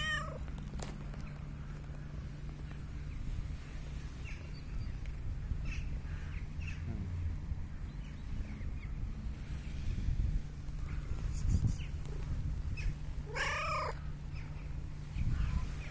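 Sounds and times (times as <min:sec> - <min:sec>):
steady low rumble: 0:00.0 - 0:15.9
birds chirping: 0:00.2 - 0:10.0, 0:10.6 - 0:15.9.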